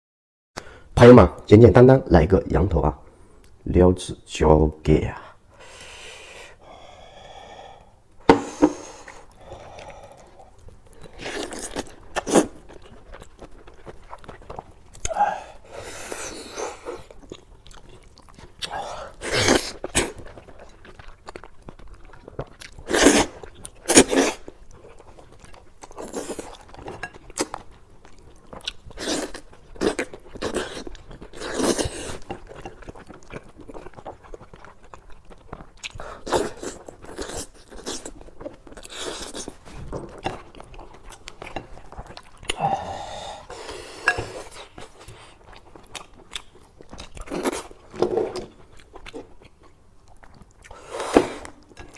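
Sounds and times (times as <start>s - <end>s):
man chewing meat: 6.4s - 51.9s.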